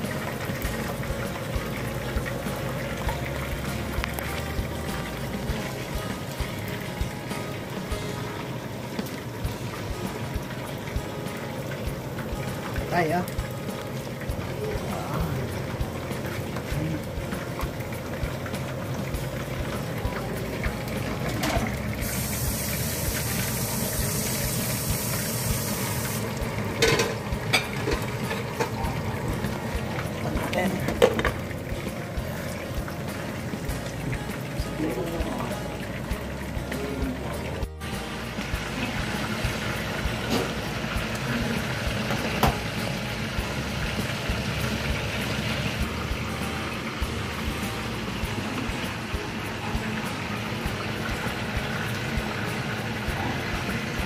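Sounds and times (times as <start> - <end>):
water hissing and bubbling: 0.0 - 54.0.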